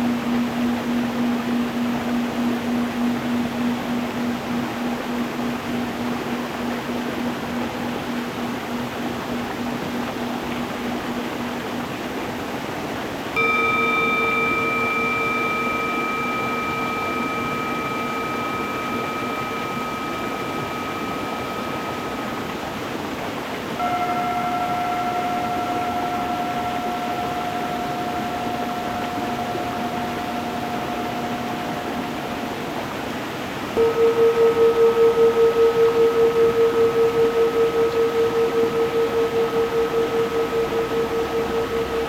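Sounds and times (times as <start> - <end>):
singing bowls ringing: 0.0 - 42.0.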